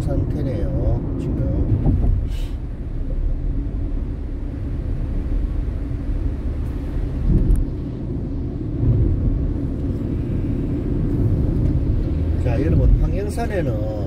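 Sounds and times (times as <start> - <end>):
car road noise on wet road: 0.0 - 14.0.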